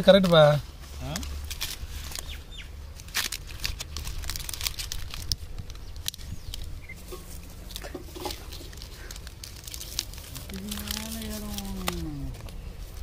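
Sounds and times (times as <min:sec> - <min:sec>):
banana leaves crinkling and crackling: 0:00.0 - 0:13.0.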